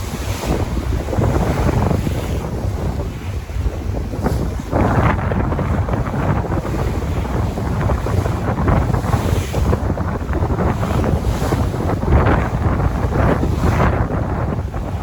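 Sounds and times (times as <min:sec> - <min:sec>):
sea waves washing: 0:00.0 - 0:15.0
wind buffeting the microphone: 0:00.0 - 0:15.0.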